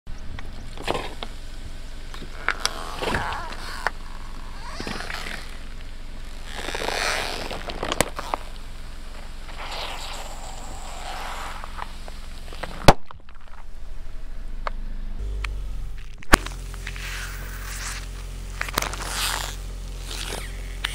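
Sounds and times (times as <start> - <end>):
car tyres crushing crunchy objects: 0.2 - 20.9.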